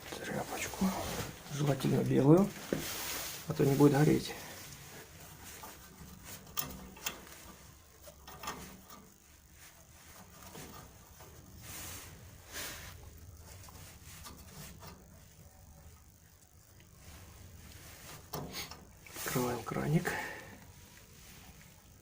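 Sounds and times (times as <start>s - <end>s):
faint low hum: 0.0s - 22.0s
rustling scrapes: 0.1s - 16.2s, 16.9s - 22.0s.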